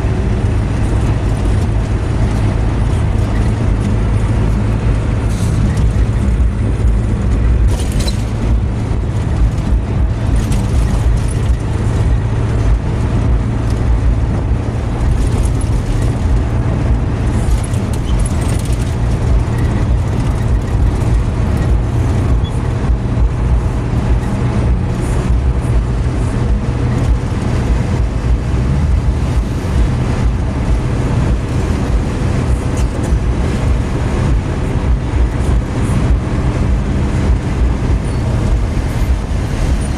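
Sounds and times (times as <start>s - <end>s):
car engine drone: 0.0s - 39.9s
tyre road noise: 0.0s - 39.9s.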